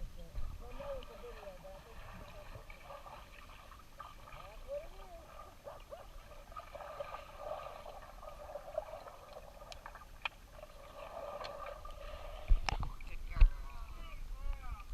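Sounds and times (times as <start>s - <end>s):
pool water sloshing and gurgling: 0.0s - 14.8s.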